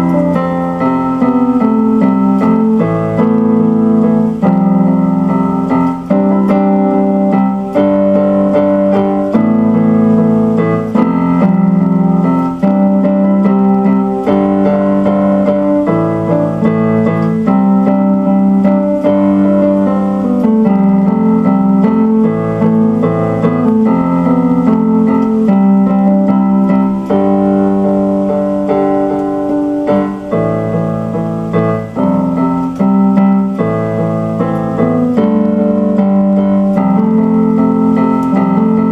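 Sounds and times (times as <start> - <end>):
piano keyboard chords: 0.0 - 38.9.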